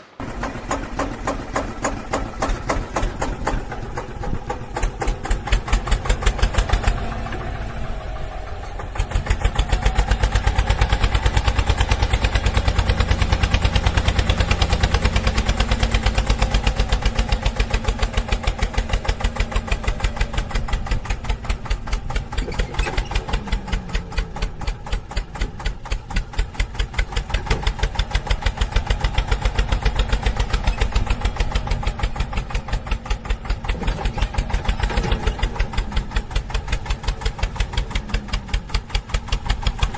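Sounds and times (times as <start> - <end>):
engine chugging: 0.0 - 39.9.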